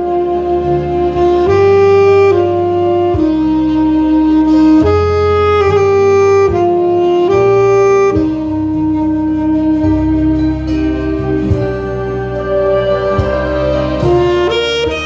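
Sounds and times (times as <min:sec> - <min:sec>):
low accompaniment: 0:00.0 - 0:15.0
saxophone playing slow melody: 0:00.0 - 0:15.0.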